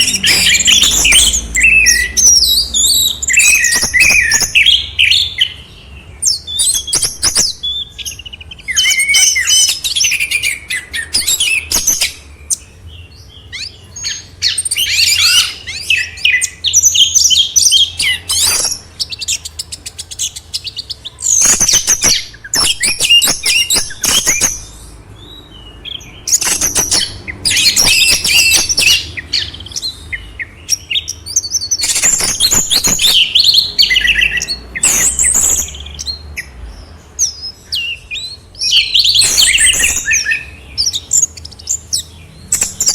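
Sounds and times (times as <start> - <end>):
songbirds twittering: 0.0 - 42.9.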